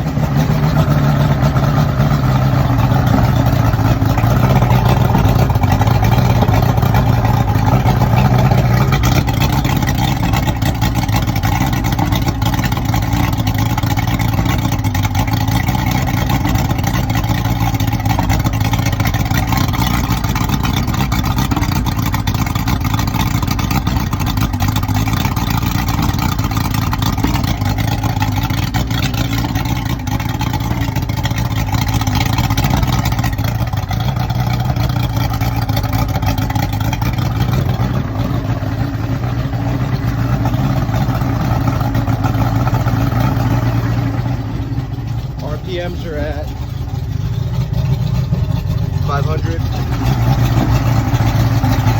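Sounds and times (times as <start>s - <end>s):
outboard motor rough idle: 0.0s - 51.9s.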